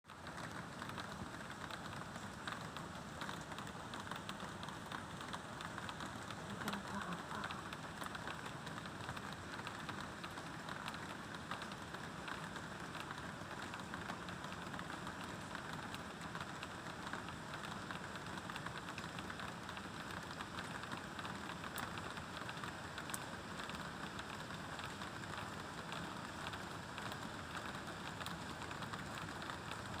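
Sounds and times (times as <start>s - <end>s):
patter of raindrops: 0.0s - 30.0s
light rain hissing: 0.1s - 30.0s.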